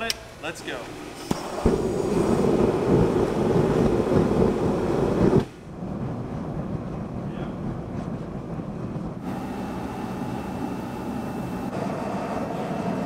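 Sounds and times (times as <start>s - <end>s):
gas burner igniting: 0.8s - 13.0s
gas forge rushing: 0.9s - 13.0s.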